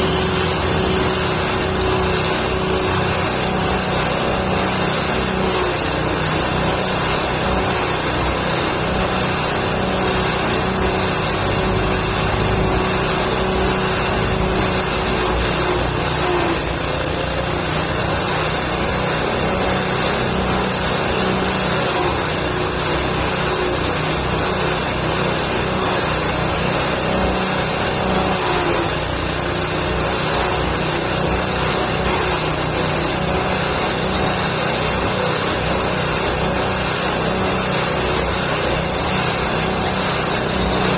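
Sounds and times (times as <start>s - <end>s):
forage chopper shredding branches: 0.0s - 40.9s.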